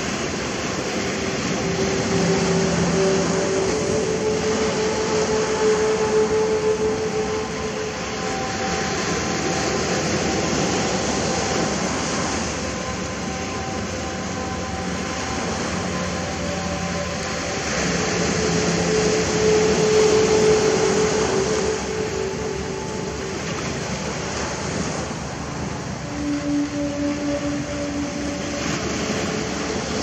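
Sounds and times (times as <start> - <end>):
droning hum of held tones: 0.0 - 30.0
sea waves washing on shore: 0.0 - 30.0.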